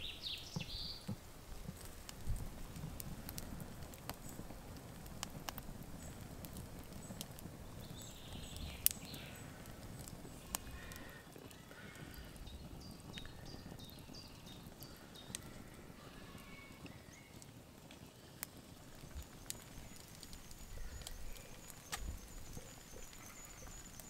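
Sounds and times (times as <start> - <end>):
campfire crackling and popping: 0.0 - 24.0
low rumble of flames: 0.0 - 24.0.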